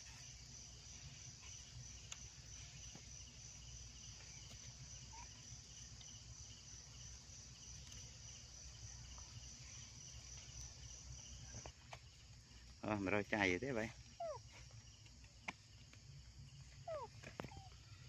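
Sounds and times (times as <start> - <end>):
insect chirping: 0.0 - 18.0
insects droning: 0.0 - 18.0.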